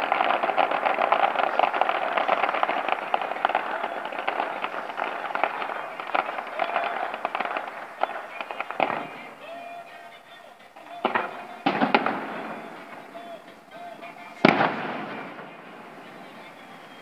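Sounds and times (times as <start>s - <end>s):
heavy firework bang: 0.0s - 10.2s, 10.8s - 17.0s
fireworks crackling: 0.0s - 17.0s.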